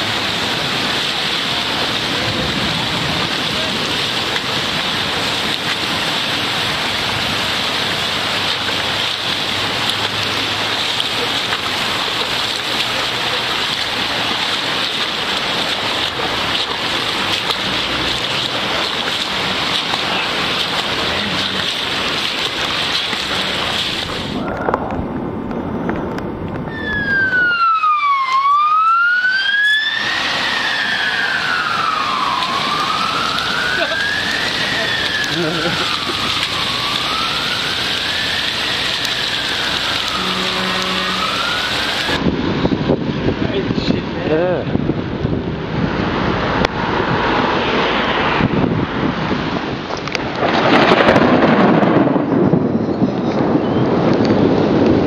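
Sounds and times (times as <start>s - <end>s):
hail and rain pelting: 0.0s - 25.0s, 26.7s - 44.9s, 49.1s - 55.0s
fire engine siren wailing: 0.0s - 43.2s, 46.8s - 55.0s.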